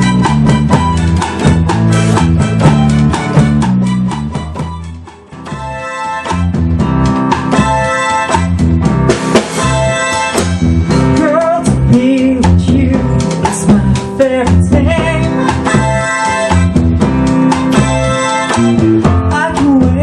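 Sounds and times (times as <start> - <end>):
drum kit: 0.0 - 20.0
guitar: 0.0 - 20.0
sliding melody line: 0.0 - 20.0.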